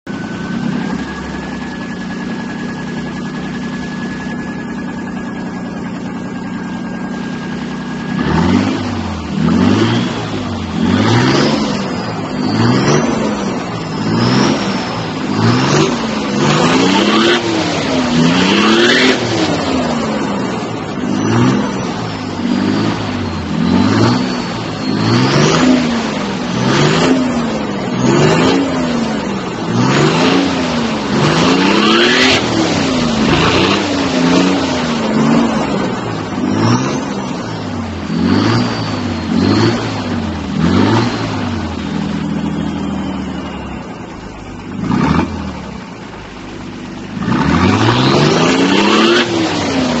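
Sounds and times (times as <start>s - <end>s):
diesel engine idling and revving: 0.0s - 50.0s
turbo whistle: 0.1s - 45.9s.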